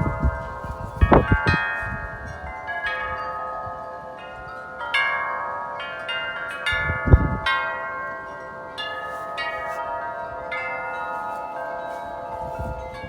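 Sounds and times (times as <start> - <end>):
metal wind chime clanging: 0.0 - 13.0.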